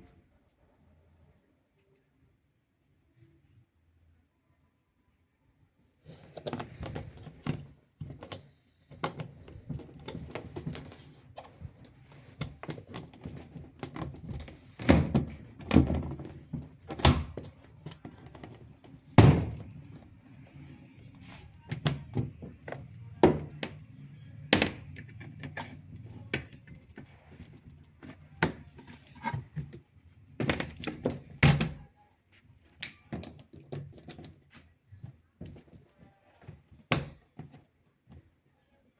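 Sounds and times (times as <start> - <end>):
objects being handled and set down: 6.1 - 38.3.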